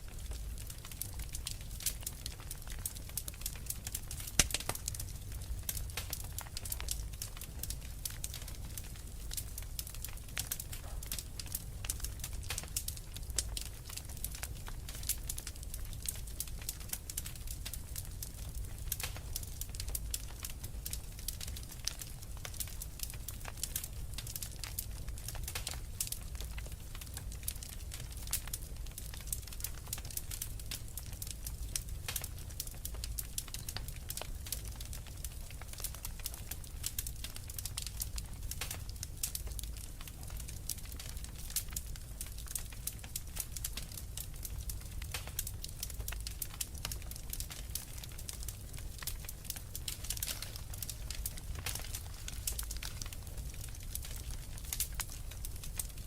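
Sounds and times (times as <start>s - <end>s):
flames rumbling: 0.0s - 56.0s
wood fire pops and snaps: 0.0s - 56.0s.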